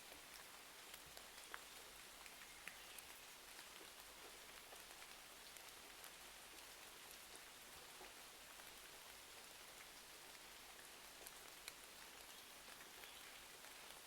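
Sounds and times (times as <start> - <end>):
faint ticks and small pops: 0.0 - 14.0
soft rain hiss: 0.0 - 14.0.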